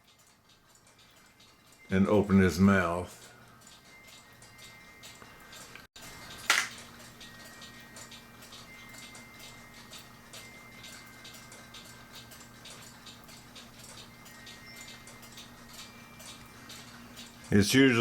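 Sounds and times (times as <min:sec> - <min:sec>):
clock ticking: 0:00.0 - 0:05.9, 0:06.5 - 0:18.0.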